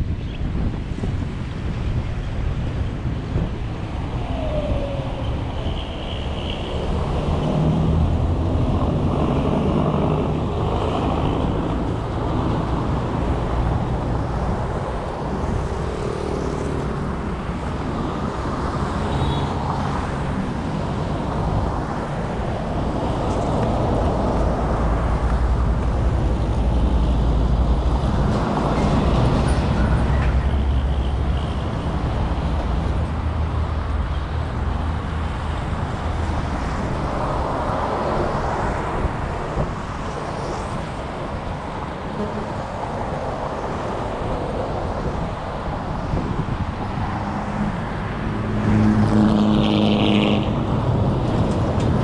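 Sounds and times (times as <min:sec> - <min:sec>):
car engine and tyre rumble: 0:00.0 - 0:52.0
other vehicles passing: 0:00.0 - 0:52.0.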